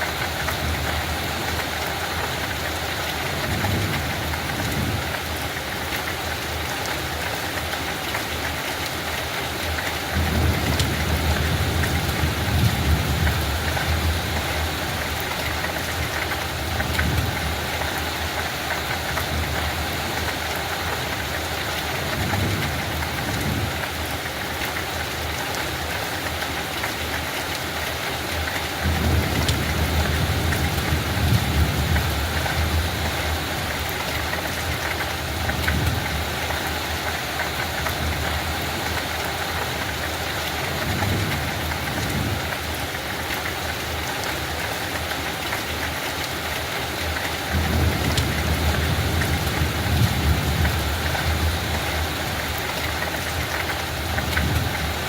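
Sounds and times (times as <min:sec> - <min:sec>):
light rain falling on a field: 0:00.0 - 0:55.0.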